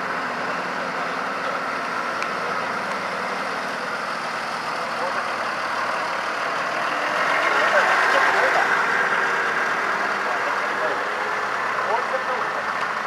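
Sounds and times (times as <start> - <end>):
indistinct voices: 0.0 - 13.0
tractor engines running: 0.0 - 13.0.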